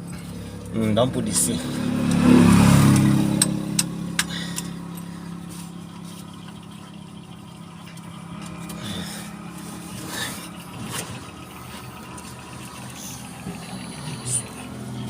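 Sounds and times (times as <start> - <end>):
heavy machine engine idling: 0.0 - 1.9, 3.1 - 15.0.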